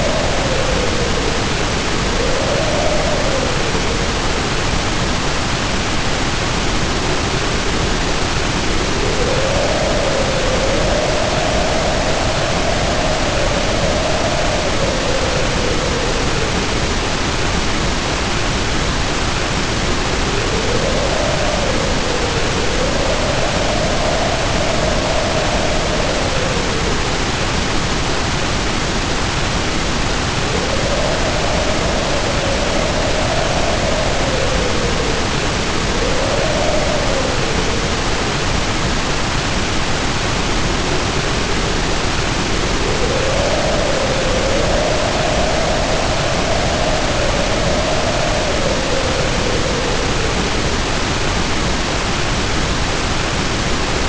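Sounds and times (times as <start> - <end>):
heavy rain pouring: 0.0 - 54.0
wind howling: 0.0 - 54.0.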